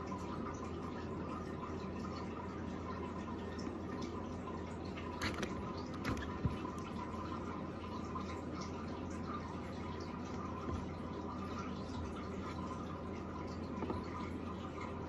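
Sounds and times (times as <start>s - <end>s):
aquarium filter running water: 0.0s - 15.0s.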